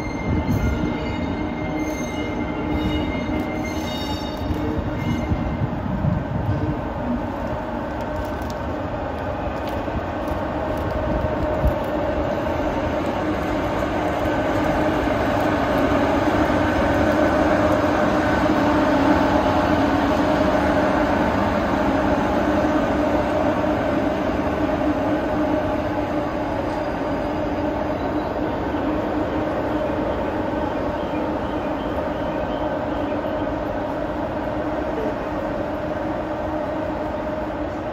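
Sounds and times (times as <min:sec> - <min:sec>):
electric locomotive blowers humming: 0:00.0 - 0:37.9.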